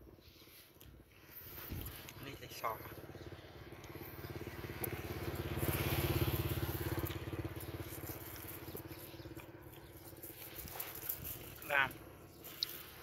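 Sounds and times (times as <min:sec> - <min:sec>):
small engine puttering: 0:01.2 - 0:13.0.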